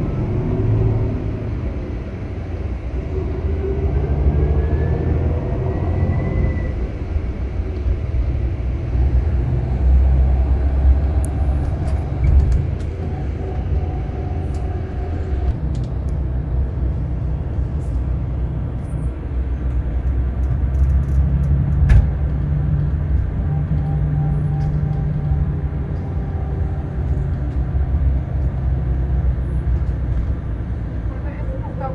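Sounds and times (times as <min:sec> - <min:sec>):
bus engine droning: 0:00.0 - 0:31.9.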